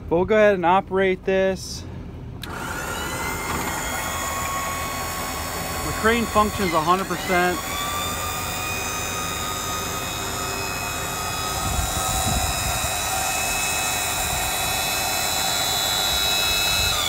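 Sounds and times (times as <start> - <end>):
electric motor whine: 2.4 - 17.0.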